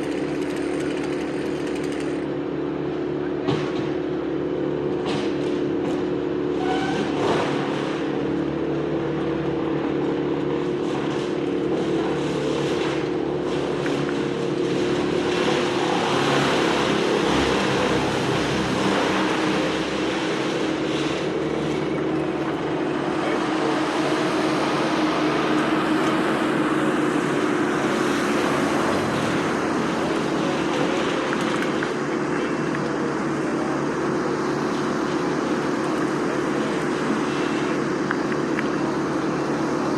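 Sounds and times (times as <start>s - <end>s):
engine droning steadily: 0.0s - 39.9s.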